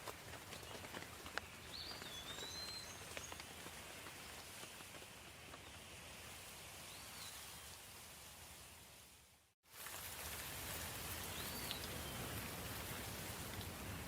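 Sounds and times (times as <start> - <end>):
soft steady rain: 0.0 - 14.0.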